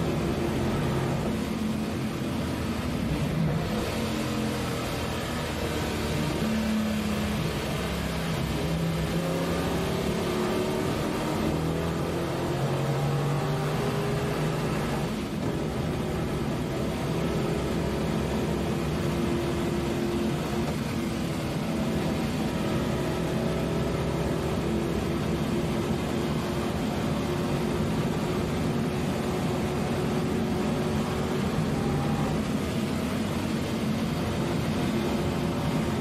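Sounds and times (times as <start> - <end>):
race car engine from cabin: 0.0 - 36.0.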